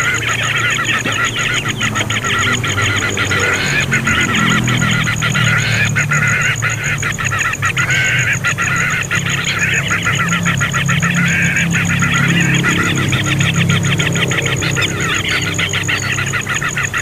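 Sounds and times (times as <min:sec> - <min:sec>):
steady low hum: 0:00.0 - 0:17.0
young bird raspy calling: 0:00.0 - 0:17.0.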